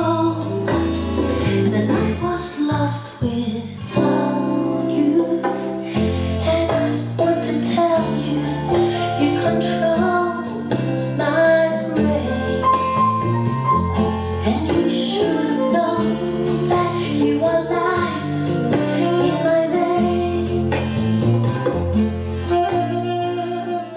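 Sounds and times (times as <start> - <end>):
instrumental backing music: 0.0 - 23.9
woman singing: 0.0 - 23.9.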